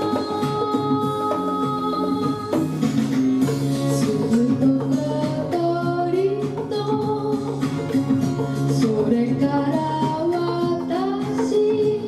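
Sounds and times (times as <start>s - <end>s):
woman singing: 0.0s - 3.2s, 3.8s - 12.0s
guitar accompaniment: 0.0s - 12.0s.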